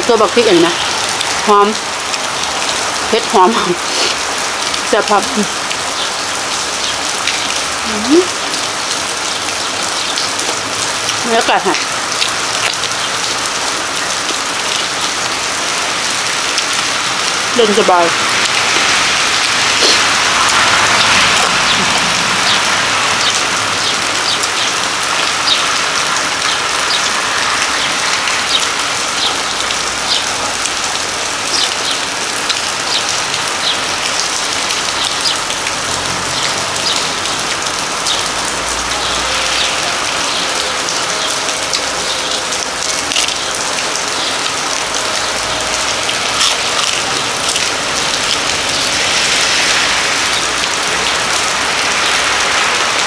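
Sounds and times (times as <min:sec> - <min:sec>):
steady rain with drop ticks: 0:00.0 - 0:53.0.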